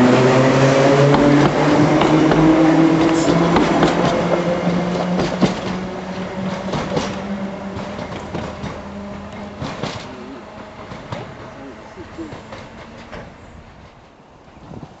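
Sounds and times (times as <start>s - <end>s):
train hum: 0.0s - 15.0s
train wheels clicking on rails: 0.0s - 15.0s.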